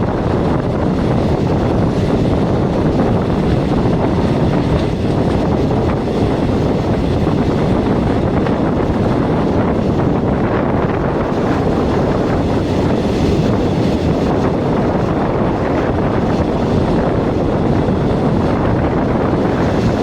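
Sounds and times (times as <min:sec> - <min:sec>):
moving train rushing: 0:00.0 - 0:20.0
wind buffeting microphone: 0:00.0 - 0:20.0.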